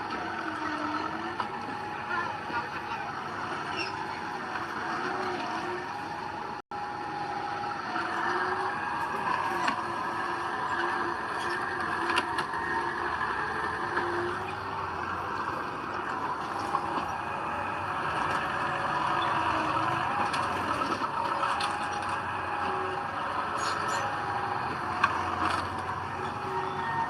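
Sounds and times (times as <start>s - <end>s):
heavy earthmoving machinery running: 0.0s - 27.0s.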